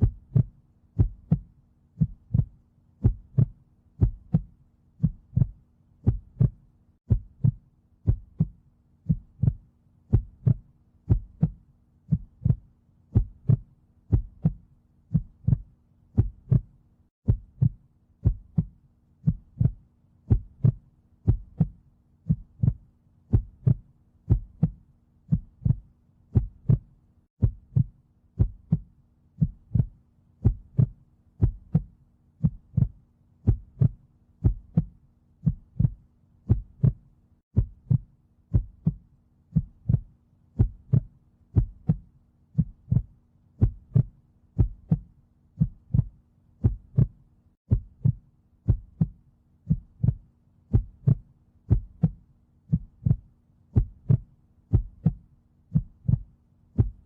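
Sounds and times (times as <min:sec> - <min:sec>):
heartbeat: 0:00.0 - 0:57.0.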